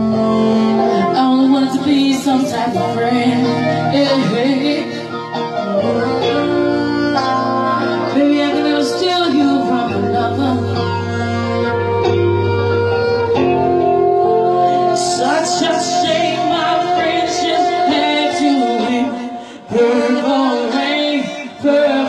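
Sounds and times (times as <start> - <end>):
woman singing: 0.0 - 11.7, 13.6 - 22.0
live band playing: 0.0 - 22.0.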